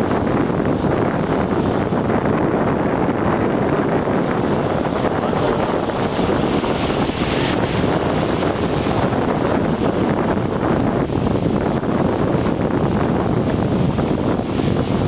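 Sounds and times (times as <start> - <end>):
small waves washing ashore: 0.0 - 15.0
wind buffeting microphone: 0.0 - 15.0.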